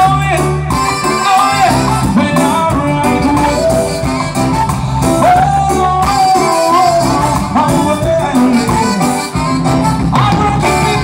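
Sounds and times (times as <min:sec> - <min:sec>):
electric guitar: 0:00.0 - 0:11.0
live band playing: 0:00.0 - 0:11.0
saxophone melody: 0:00.0 - 0:11.0.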